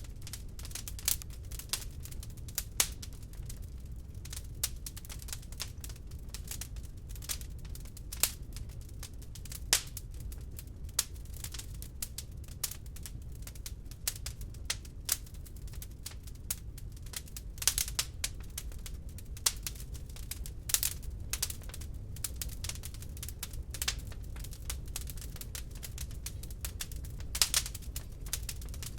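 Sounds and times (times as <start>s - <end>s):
log fire crackling and popping: 0.0s - 28.9s
low rumble of burning fire: 0.0s - 28.9s.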